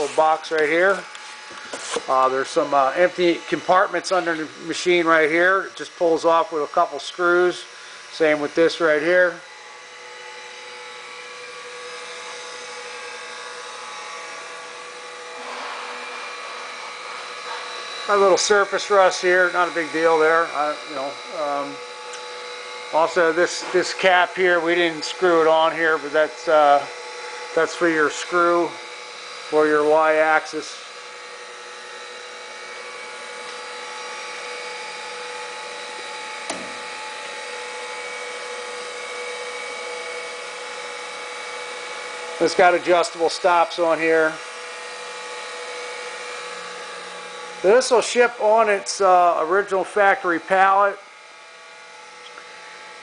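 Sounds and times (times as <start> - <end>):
grinding wheel whining: 0.0 - 50.9.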